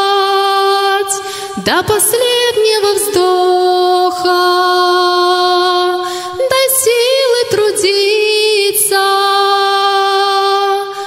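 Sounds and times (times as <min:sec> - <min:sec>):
woman singing a hymn: 0:00.0 - 0:11.0.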